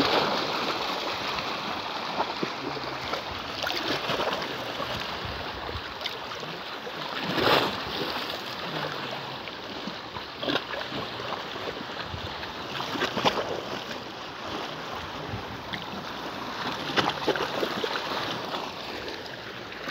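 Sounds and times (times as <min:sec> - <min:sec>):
small waves lapping: 0:00.0 - 0:19.9.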